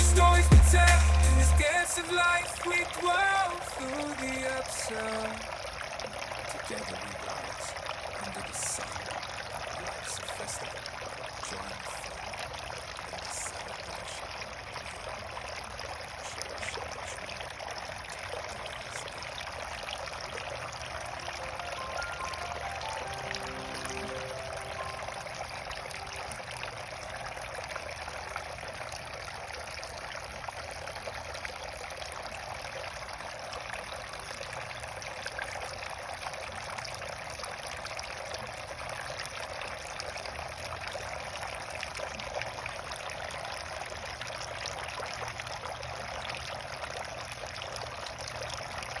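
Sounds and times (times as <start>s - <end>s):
water fountain splashing: 0.0s - 49.0s.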